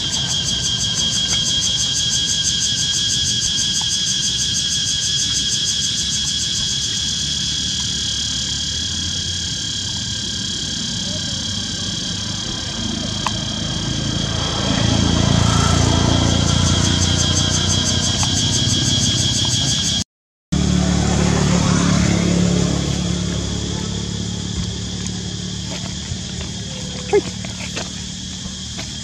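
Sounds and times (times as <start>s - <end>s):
insect chorus: 0.0s - 20.0s, 20.6s - 29.0s
vehicle engine rumble: 0.0s - 29.0s.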